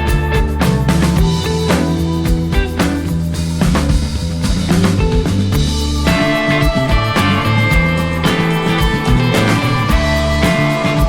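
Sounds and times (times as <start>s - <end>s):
rock music with drums and guitar: 0.0s - 11.0s.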